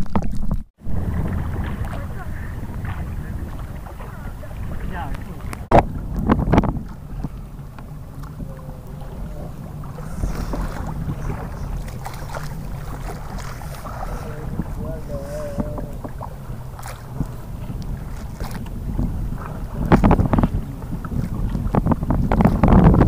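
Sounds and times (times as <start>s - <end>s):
small water splashes: 0.0s - 6.2s, 6.8s - 22.8s
water lapping: 0.0s - 23.0s
wind rumbling on microphone: 0.0s - 23.0s.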